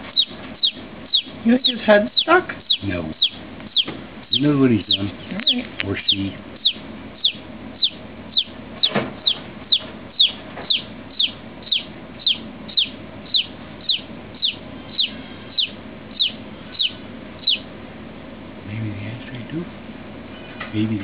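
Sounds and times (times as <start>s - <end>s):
chick peeping: 0.0s - 17.8s.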